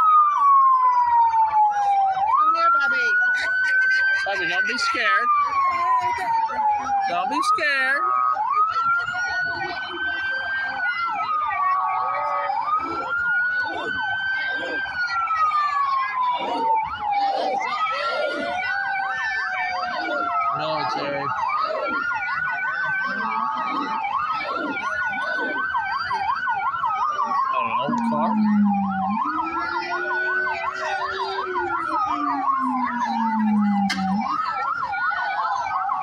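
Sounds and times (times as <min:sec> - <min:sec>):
lower-pitched siren rising and falling: 0:00.0 - 0:36.0
siren wailing and yelping: 0:00.0 - 0:36.0.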